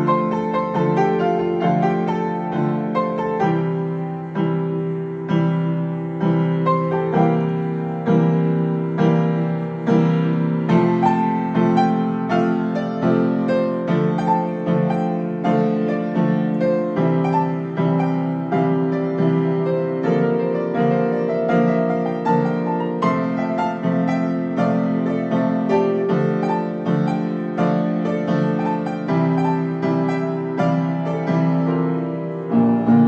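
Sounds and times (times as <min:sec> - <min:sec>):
upright piano playing chords: 0:00.0 - 0:33.0.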